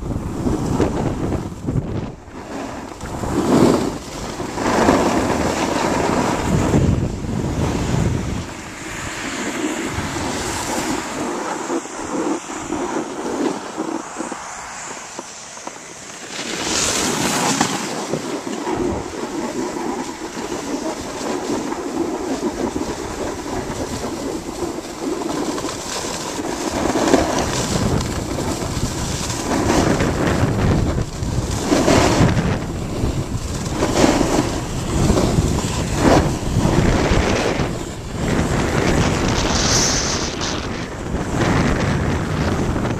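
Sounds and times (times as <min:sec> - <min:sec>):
ski edges scraping on snow: 0:00.0 - 0:42.9
wind buffeting microphone: 0:00.0 - 0:42.9.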